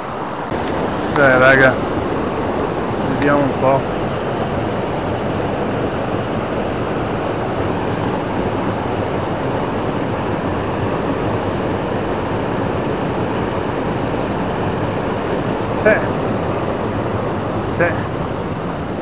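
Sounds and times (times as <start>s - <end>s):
stream rushing over boulders: 0.0s - 19.0s.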